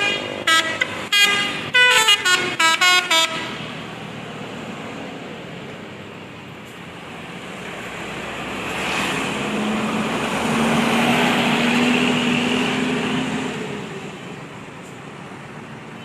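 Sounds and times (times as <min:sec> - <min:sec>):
bus driving past: 0:00.0 - 0:16.0.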